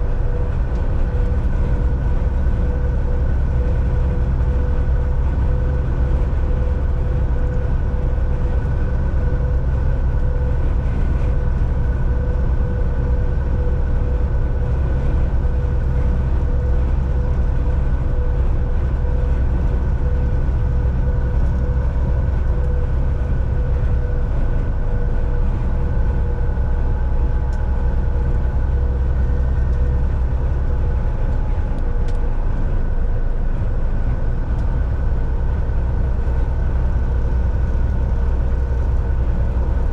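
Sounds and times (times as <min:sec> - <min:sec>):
constant hum: 0:00.0 - 0:39.9
diesel engine drone: 0:00.0 - 0:39.9
road noise: 0:00.0 - 0:39.9.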